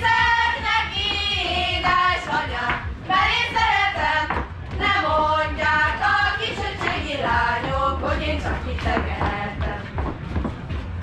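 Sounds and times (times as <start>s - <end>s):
high voices singing: 0.0s - 10.1s.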